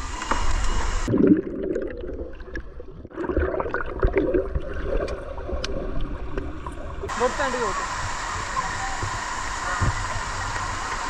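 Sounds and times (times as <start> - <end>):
muffled underwater bubbling: 0.9 - 11.0.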